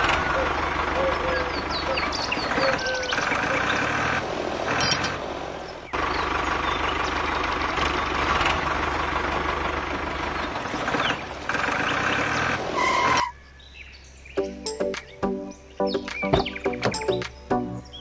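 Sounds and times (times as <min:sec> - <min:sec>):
faint birds chirping: 0:00.0 - 0:12.6, 0:13.3 - 0:18.0
engine running: 0:00.0 - 0:18.0.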